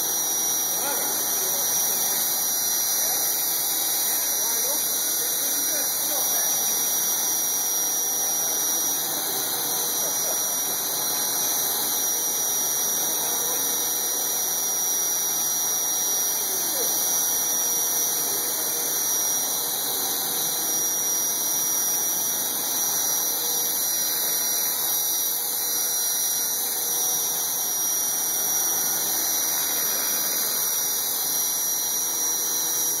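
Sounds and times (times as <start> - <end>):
radio-controlled helicopter whine: 0.0 - 33.0.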